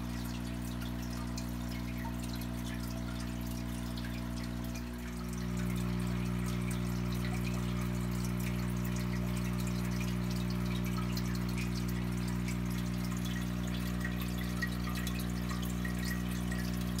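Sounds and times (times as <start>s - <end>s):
aquarium pump humming: 0.0s - 17.0s
water bubbling and splashing: 0.0s - 17.0s.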